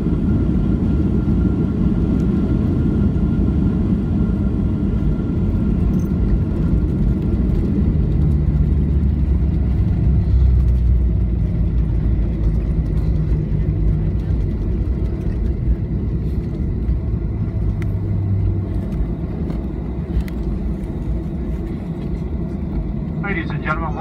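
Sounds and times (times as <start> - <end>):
airliner cabin rumble on landing: 0.0 - 24.0.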